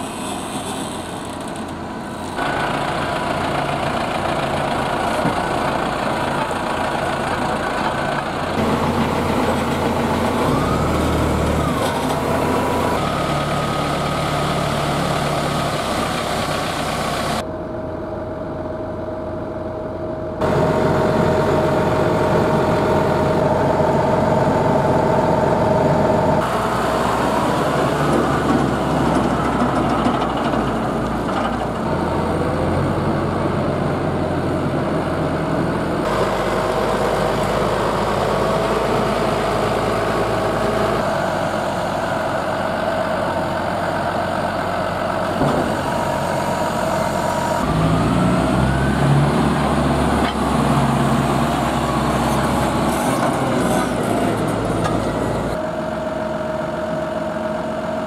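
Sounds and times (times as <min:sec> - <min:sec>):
tractor engines running: 0:00.0 - 0:58.0.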